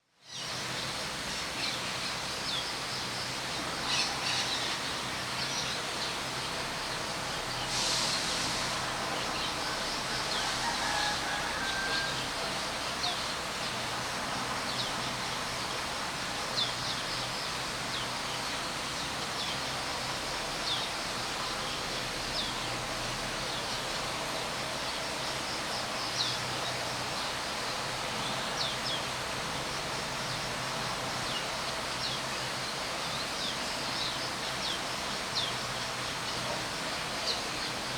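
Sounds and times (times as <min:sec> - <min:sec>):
background hiss: 0:00.3 - 0:37.9.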